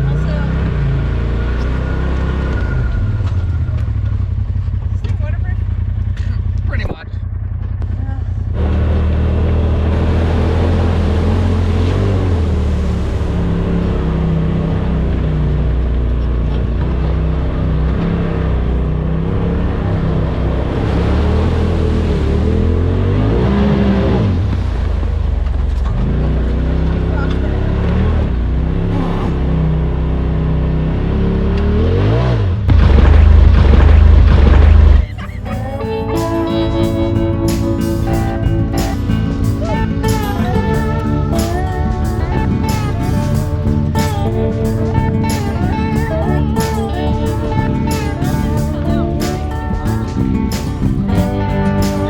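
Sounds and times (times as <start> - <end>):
loud low rumble: 0.0 - 31.2, 32.0 - 52.0
utility vehicle engine at low revs: 0.0 - 52.0.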